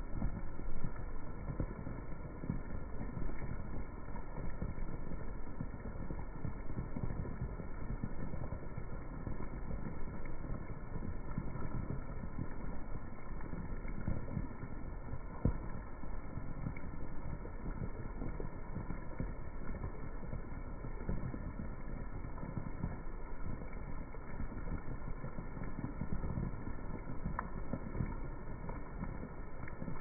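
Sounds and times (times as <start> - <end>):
slowed heavy rain on paving: 0.0 - 30.0.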